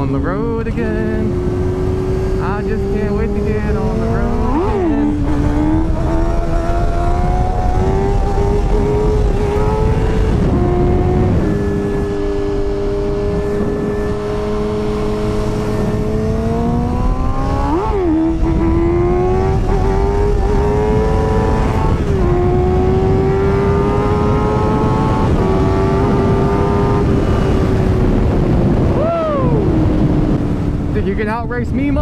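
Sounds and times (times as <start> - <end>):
motorcycle engine revving: 0.0 - 31.3
wind rushing past: 3.9 - 32.0.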